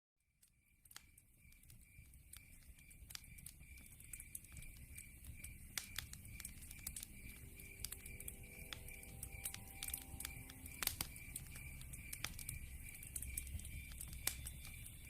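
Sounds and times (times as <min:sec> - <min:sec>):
wood fire crackling: 0:00.4 - 0:15.0.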